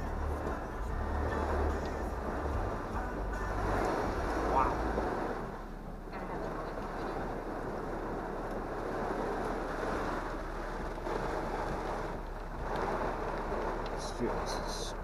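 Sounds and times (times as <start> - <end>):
heavy rain and wind on vehicle: 0.0 - 15.0.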